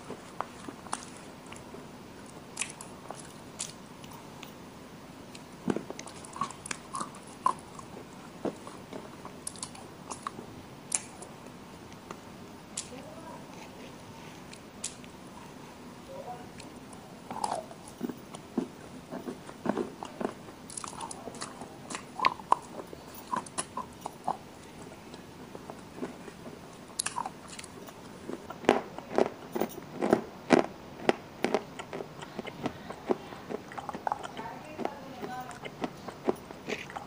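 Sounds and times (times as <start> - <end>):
crisp chewing crunches: 0.0 - 4.6, 5.3 - 11.3, 11.9 - 15.2, 16.5 - 37.0.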